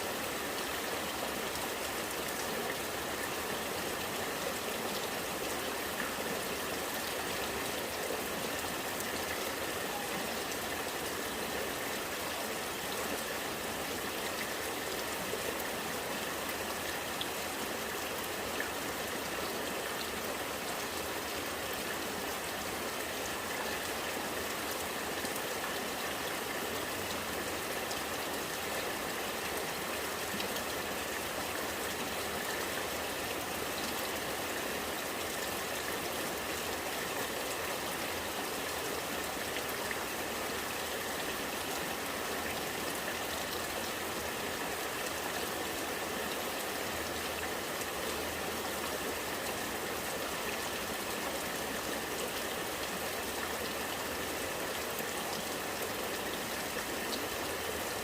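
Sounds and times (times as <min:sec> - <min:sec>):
rainwater running and gurgling: 0:00.0 - 0:58.0.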